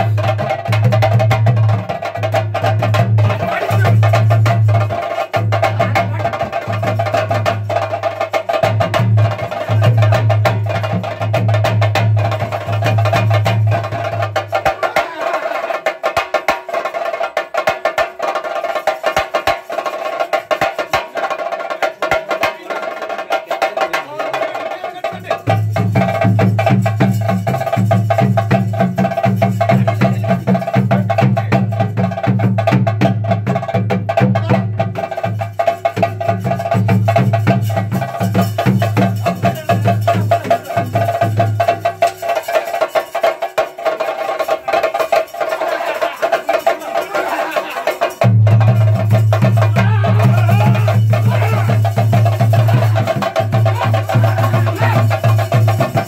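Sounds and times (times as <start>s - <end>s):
fast drumming: 0.0s - 56.0s.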